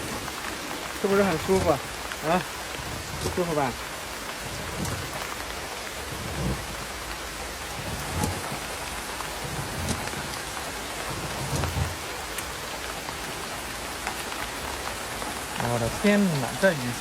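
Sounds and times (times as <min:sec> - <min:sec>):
heavy rain on tarp roof: 0:00.0 - 0:17.0.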